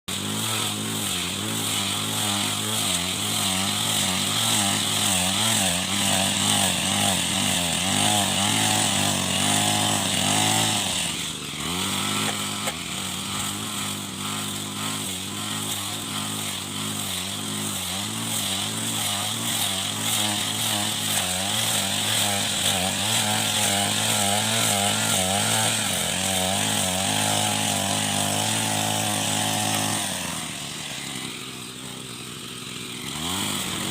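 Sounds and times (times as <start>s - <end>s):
grass cutter engine running: 0.1s - 33.9s.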